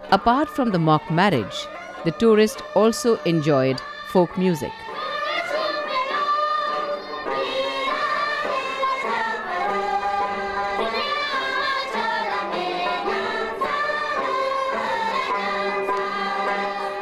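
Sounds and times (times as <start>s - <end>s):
voices singing folk song: 0.0s - 17.0s.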